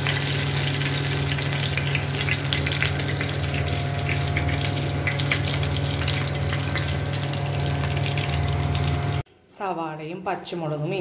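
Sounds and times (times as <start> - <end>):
oil sizzling and crackling: 0.0 - 9.2.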